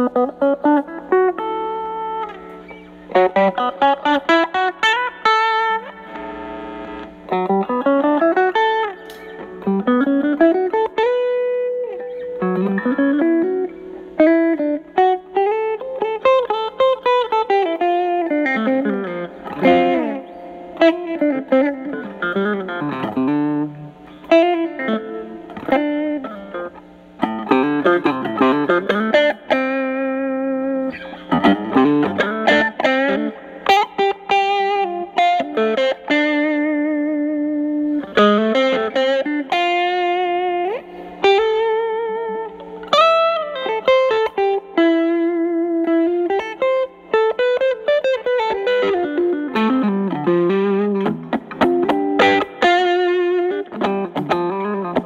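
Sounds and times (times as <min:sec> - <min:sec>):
clean electric guitar blues lead: 0:00.0 - 0:55.0.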